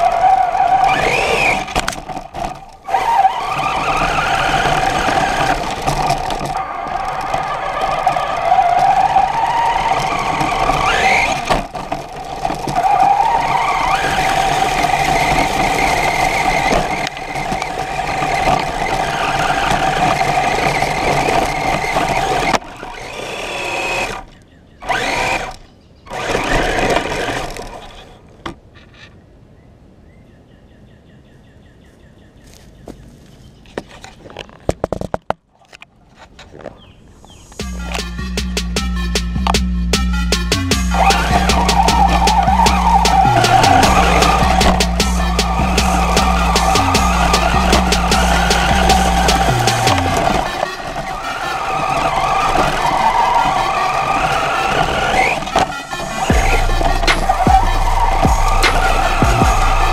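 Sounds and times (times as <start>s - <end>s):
rc truck motor whining: 0.0s - 28.3s, 36.8s - 59.9s.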